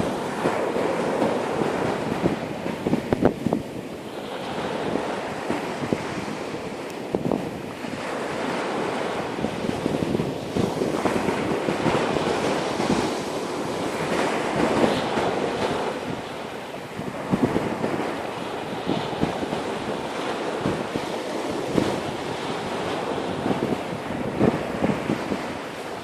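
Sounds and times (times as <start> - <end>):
sea surf washing ashore: 0.0 - 26.0
wind buffeting microphone: 0.0 - 26.0.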